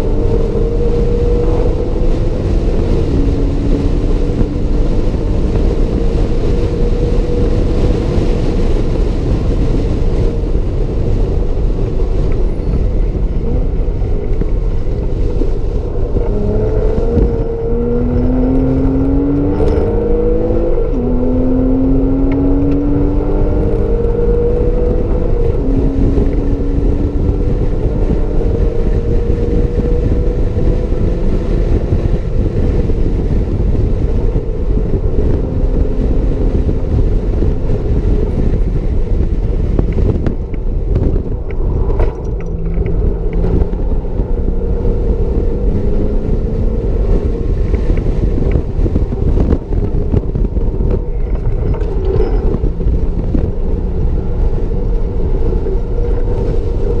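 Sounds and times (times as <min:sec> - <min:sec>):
car engine revving through gears: 0:00.0 - 0:57.0
road and wind noise: 0:00.0 - 0:57.0.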